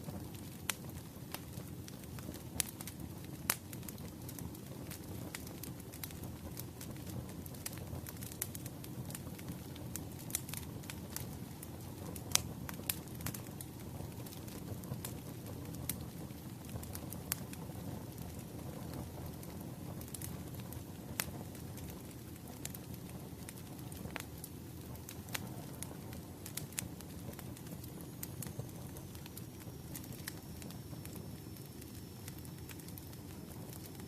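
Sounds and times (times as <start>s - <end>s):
firewood crackling and popping: 0.0s - 34.0s
low rumble of flames: 0.0s - 34.0s.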